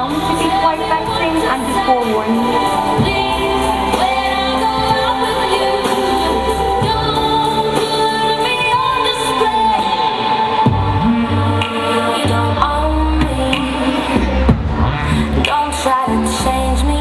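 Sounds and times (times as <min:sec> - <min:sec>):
song with singing voice: 0:00.0 - 0:17.0.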